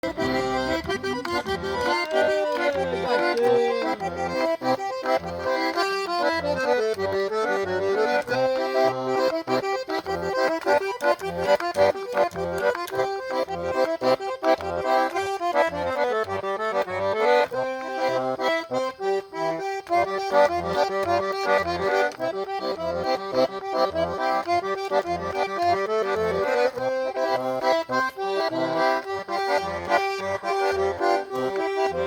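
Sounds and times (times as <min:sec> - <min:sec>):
button accordion playing a tune: 0:00.0 - 0:32.0.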